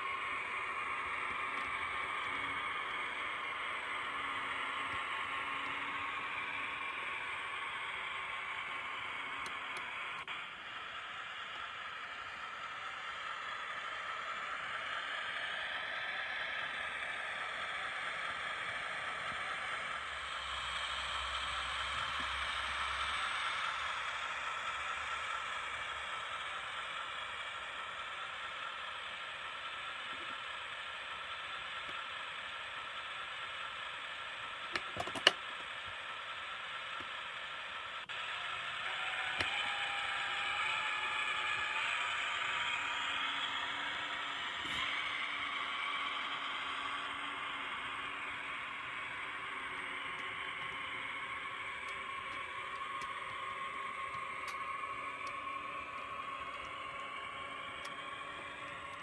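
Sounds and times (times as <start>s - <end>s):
diesel engine sound from small speaker: 0.0s - 59.0s.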